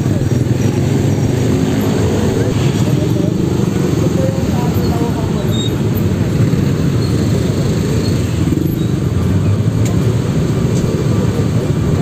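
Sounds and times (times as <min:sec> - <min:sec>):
car and motorcycle engines idling: 0:00.0 - 0:12.0.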